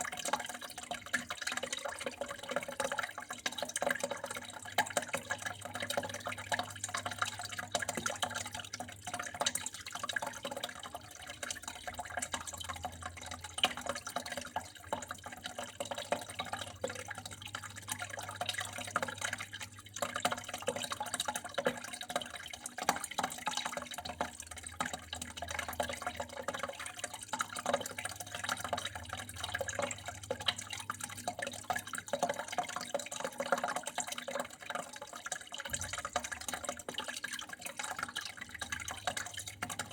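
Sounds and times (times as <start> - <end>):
water flowing and trickling: 0.0 - 39.9
water splashes and drips: 0.0 - 39.9.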